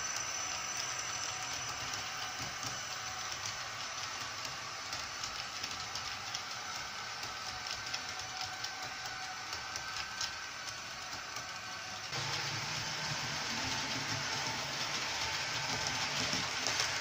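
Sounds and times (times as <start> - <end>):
faint motor whine: 0.0 - 17.0
model train wheels clicking: 0.0 - 17.0.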